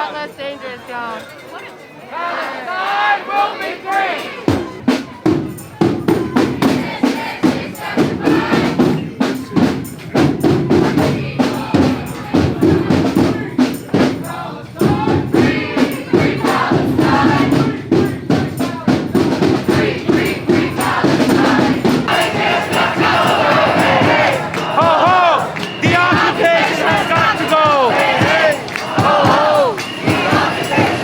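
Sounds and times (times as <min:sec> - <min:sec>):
crowd chanting: 0:00.0 - 0:31.0
drums beaten in rhythm: 0:02.8 - 0:31.0.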